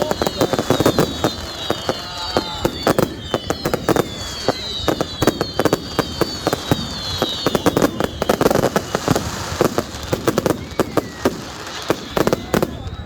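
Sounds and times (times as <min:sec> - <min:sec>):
descending firework whistles: 0:00.0 - 0:13.0
fireworks bangs and crackles: 0:00.0 - 0:13.0.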